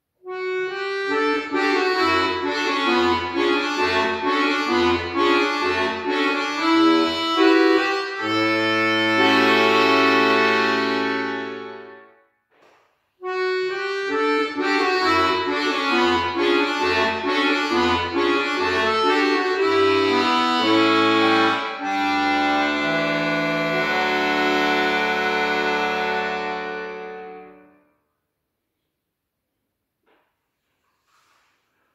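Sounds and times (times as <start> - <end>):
accordion playing: 0.2 - 12.2, 13.2 - 27.8.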